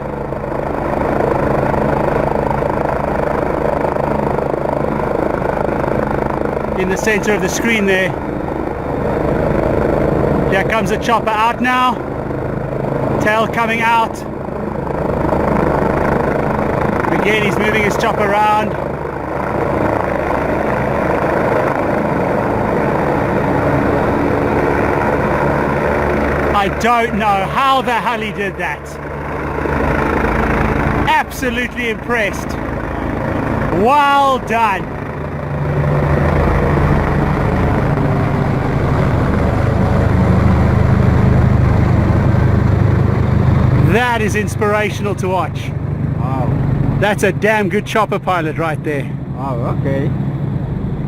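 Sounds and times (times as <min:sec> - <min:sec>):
helicopter rotor drone: 0:00.0 - 0:51.0.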